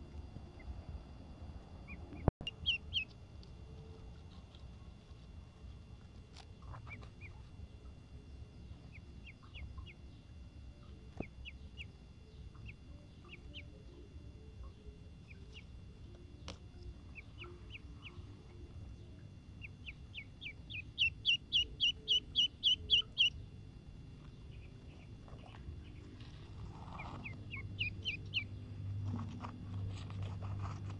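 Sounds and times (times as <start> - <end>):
duckling peeping: 1.8 - 4.7, 6.6 - 7.6, 8.6 - 10.2, 10.8 - 23.5, 24.1 - 30.9.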